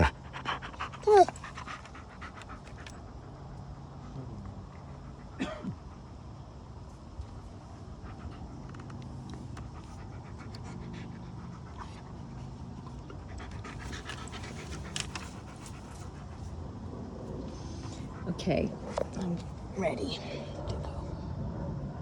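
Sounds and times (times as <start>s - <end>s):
dog panting: 0.0s - 20.9s.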